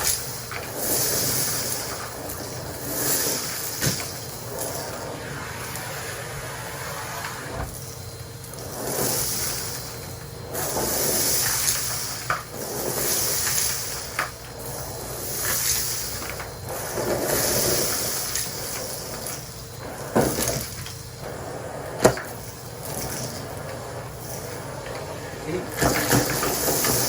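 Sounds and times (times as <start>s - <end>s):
debris rattling in hose: 0.0s - 6.2s, 7.7s - 21.4s, 22.0s - 27.0s
vacuum cleaner running: 0.0s - 27.0s.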